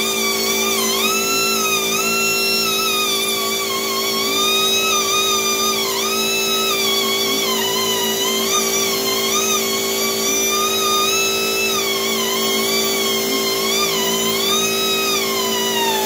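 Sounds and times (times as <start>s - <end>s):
rotary tool whining: 0.0s - 16.0s.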